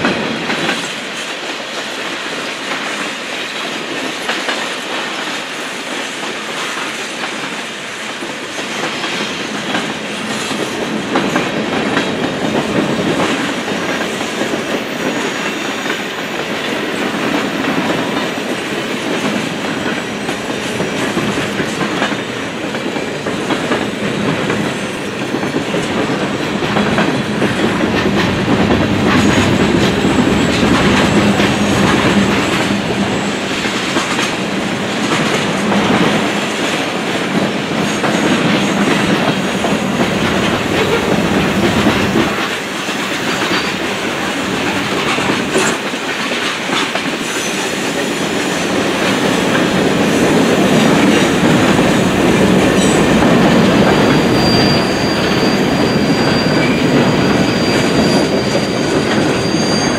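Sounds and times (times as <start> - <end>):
wheels clickety-clack over joints: 0.0 - 59.4
train wheels rumbling on rails: 0.0 - 59.9.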